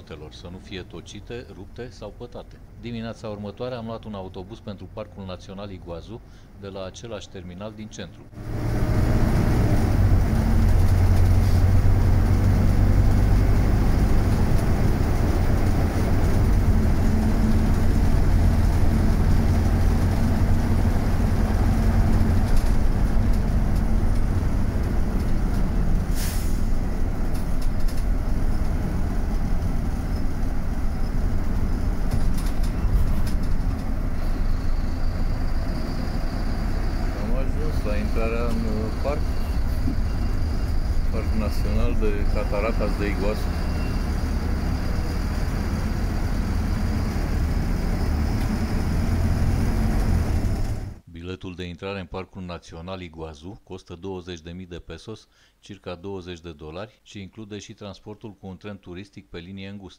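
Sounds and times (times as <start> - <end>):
bus engine drone: 0.0 - 51.1
road rumble: 0.0 - 51.1.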